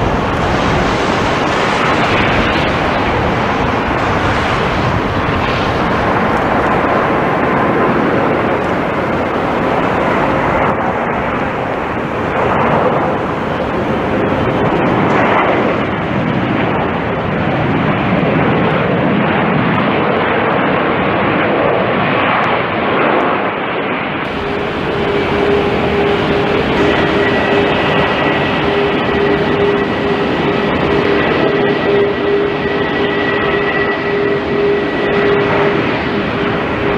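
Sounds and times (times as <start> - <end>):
jet engines rushing: 0.0 - 36.9.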